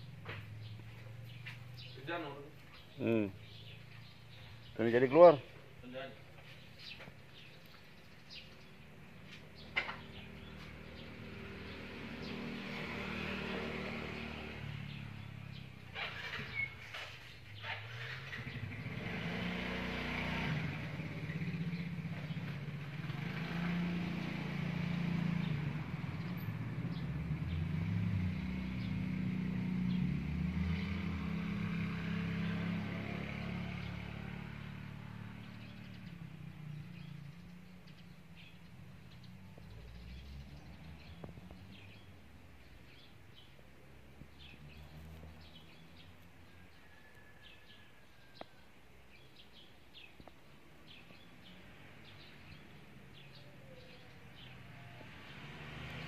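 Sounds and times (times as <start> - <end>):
vehicle engine running: 0.0 - 46.3.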